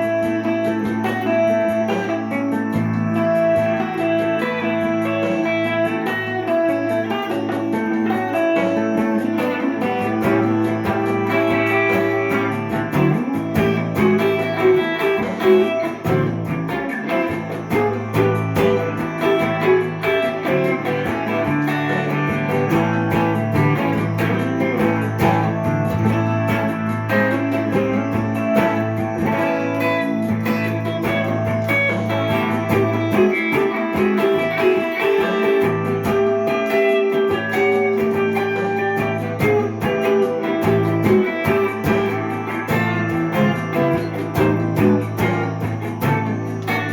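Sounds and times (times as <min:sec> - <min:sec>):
electric guitar plucked notes: 0:00.0 - 0:46.9.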